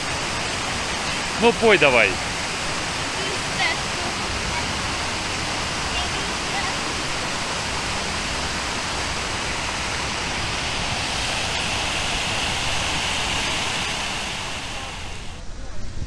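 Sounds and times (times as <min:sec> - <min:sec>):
fountain water splashing: 0:00.0 - 0:15.4.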